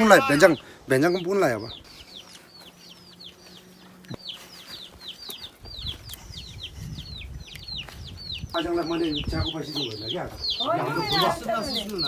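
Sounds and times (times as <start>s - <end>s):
bird chirping rapidly: 0.0s - 12.0s.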